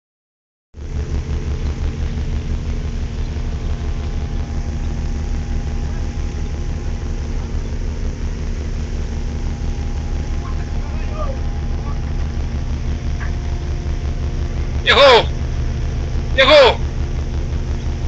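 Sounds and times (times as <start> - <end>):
boat engine droning: 0.8 - 18.0
steady tones: 0.8 - 18.0.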